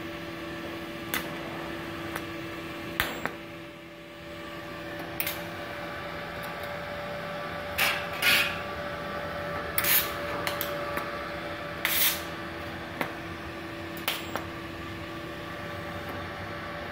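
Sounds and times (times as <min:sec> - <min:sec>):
welder humming with cooling fan: 0:00.0 - 0:16.9.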